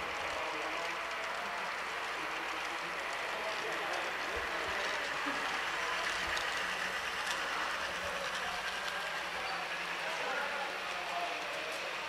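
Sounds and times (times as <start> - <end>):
model train running: 0.0 - 12.0.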